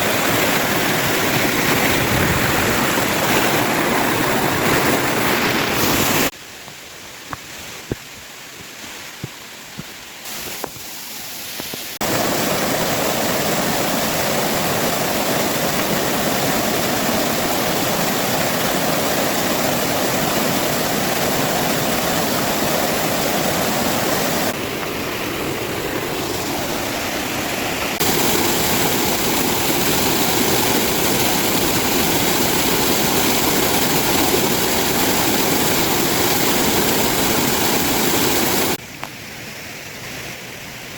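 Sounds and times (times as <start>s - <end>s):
waterfall rushing: 0.0s - 6.4s, 8.8s - 40.9s.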